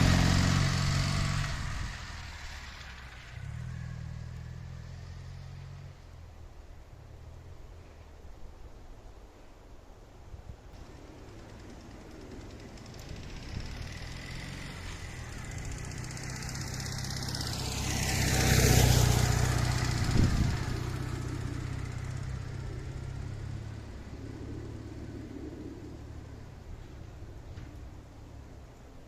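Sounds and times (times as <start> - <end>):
motorcycle engine passing by: 0.0 - 6.3, 10.8 - 28.6.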